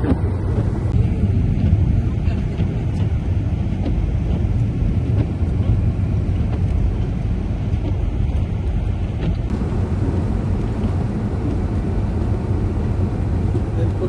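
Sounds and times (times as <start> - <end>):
road and tyre noise: 0.0 - 14.0.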